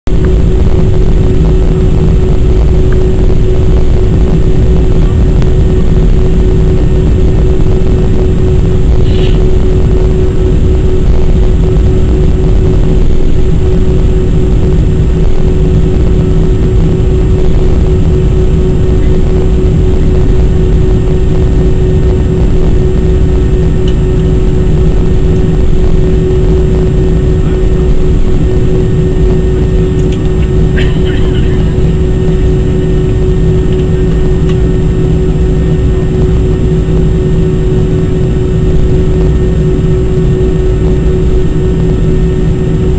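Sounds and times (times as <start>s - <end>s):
jet engine rumble in cabin: 0.1s - 42.9s.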